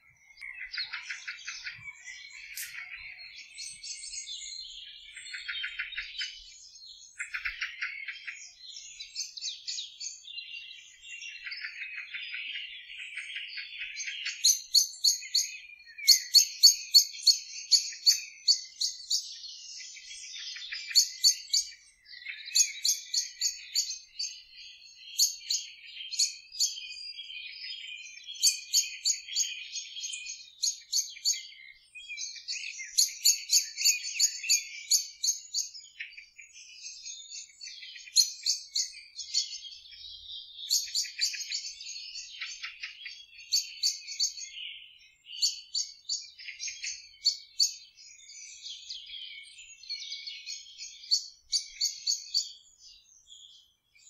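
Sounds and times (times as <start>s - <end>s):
birds warbling: 0.0s - 54.0s.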